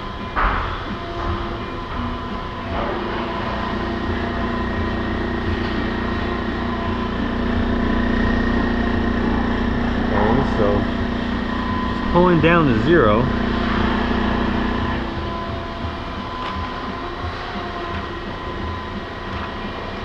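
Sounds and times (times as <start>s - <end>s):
vacuum pump humming: 0.0s - 20.0s.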